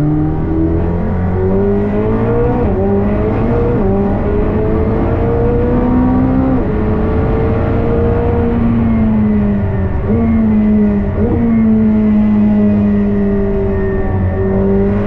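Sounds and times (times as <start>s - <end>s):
road and wind rumble: 0.0s - 15.0s
sports car engine accelerating: 0.0s - 15.0s.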